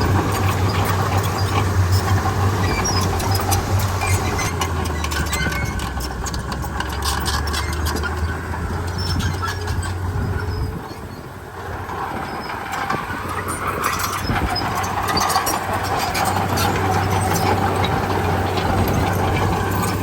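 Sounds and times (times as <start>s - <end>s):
clicking and clatter: 0.0s - 20.0s
heavy diesel engine running: 0.0s - 20.0s.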